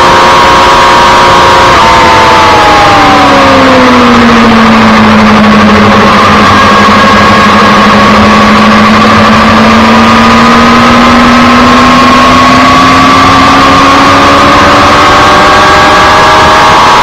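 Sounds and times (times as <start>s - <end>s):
motorcycle engine pulling: 0.0s - 17.0s.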